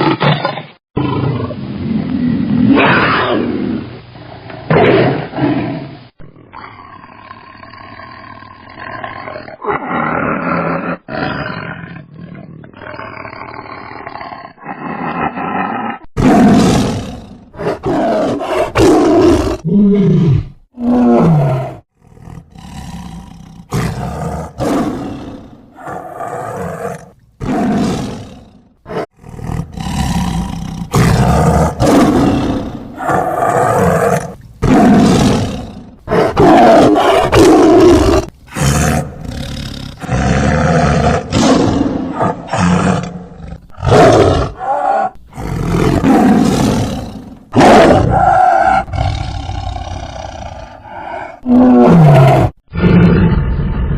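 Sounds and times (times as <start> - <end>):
tigers roaring: 4.7 - 53.9.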